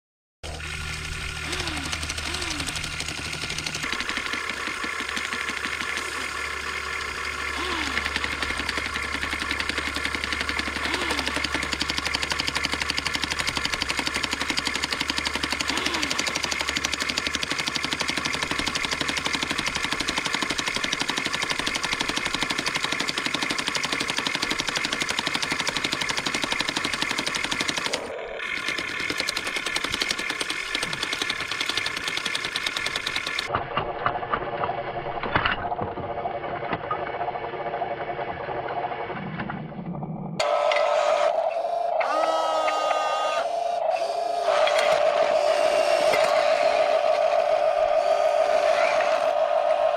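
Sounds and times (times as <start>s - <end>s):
motor whine: 0.4s - 49.9s.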